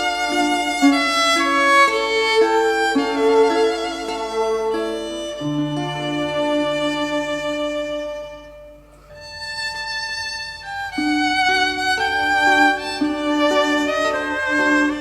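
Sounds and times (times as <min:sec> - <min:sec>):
violin long bowed notes: 0:00.0 - 0:15.0.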